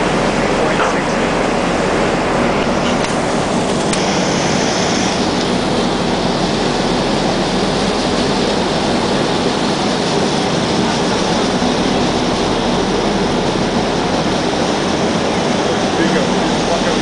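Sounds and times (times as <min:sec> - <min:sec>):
loud rushing noise on ship: 0:00.0 - 0:17.0
low machinery hum: 0:00.0 - 0:17.0.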